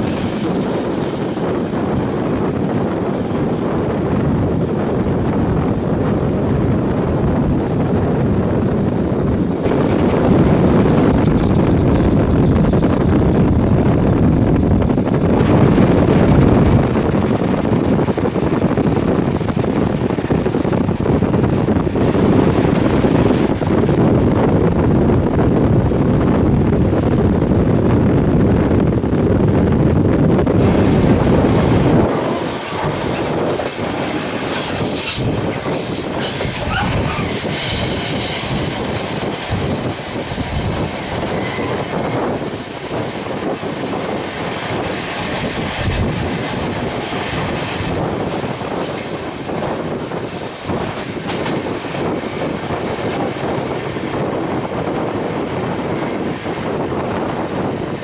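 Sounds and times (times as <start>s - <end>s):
train rushing rumble: 0.0s - 58.0s
wind on microphone: 0.0s - 58.0s.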